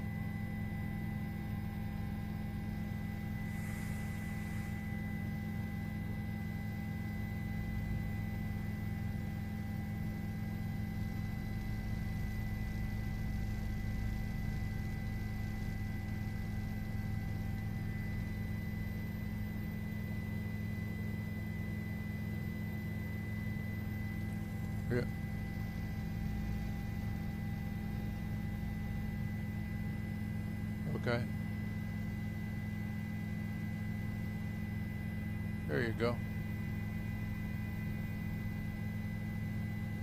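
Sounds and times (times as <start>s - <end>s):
helicopter engine and rotor: 0.0s - 40.0s.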